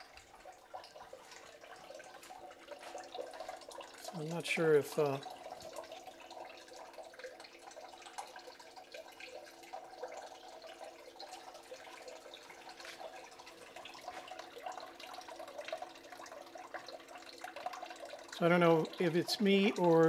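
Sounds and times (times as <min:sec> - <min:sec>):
submersible pump humming: 0:00.0 - 0:20.0
water dripping from hose: 0:00.0 - 0:20.0
water trickling and splashing: 0:00.0 - 0:20.0.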